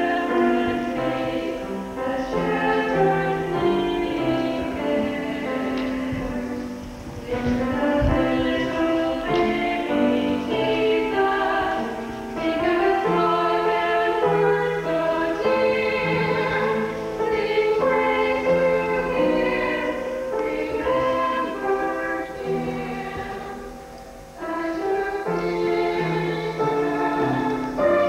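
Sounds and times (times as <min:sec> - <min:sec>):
lower accompanying line: 0:00.0 - 0:28.0.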